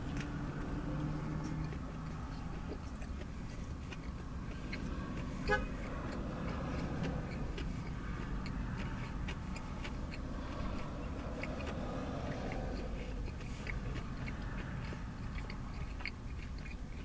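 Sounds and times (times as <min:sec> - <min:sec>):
low background rumble: 0:00.0 - 0:17.0
wet chewing mouth clicks: 0:00.0 - 0:17.0.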